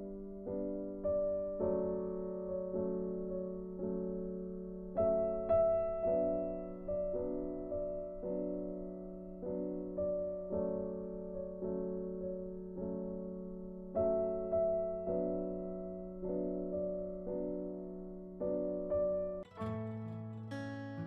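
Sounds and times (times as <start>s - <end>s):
slow gentle solo piano: 0.0s - 21.0s.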